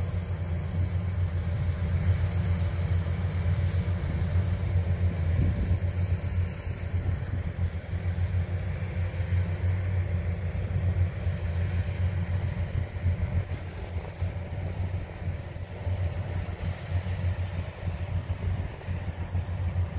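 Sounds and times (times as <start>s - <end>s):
combine harvester diesel engine: 0.0s - 19.9s.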